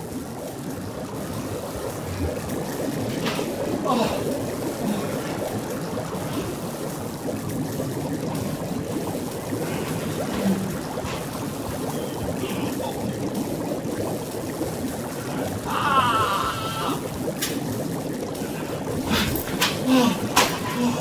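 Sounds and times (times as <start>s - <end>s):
water bubbling underwater: 0.0s - 21.0s.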